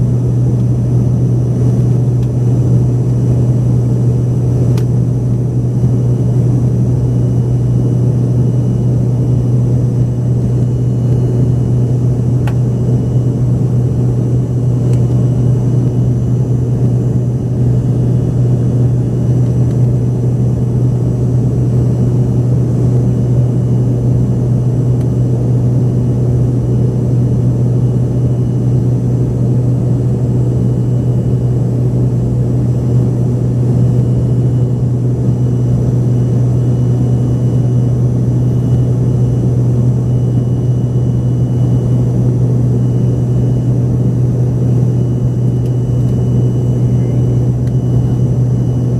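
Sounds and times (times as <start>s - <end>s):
jet cabin drone: 0.0s - 48.9s.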